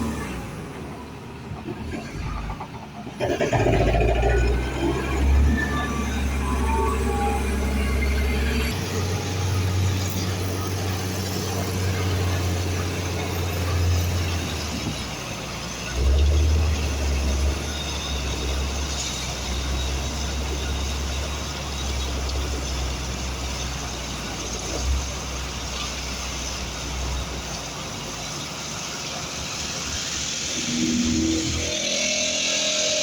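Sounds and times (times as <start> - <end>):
diesel engine under load: 0.0 - 33.0.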